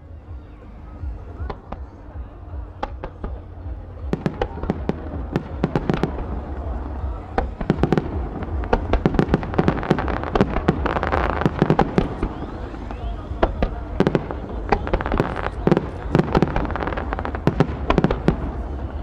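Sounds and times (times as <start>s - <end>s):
fireworks bangs and crackle: 1.0s - 19.0s.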